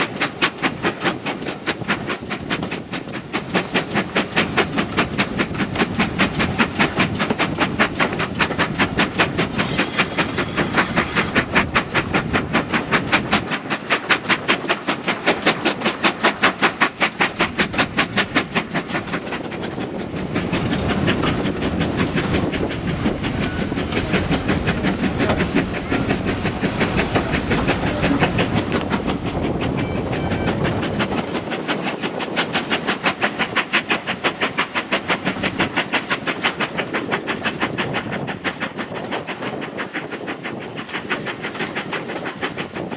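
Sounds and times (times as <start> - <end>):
steam train chugging: 0.0 - 42.9.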